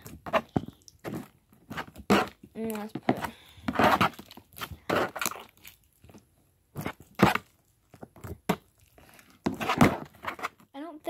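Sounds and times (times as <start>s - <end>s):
hands squishing slime: 0.0s - 10.6s.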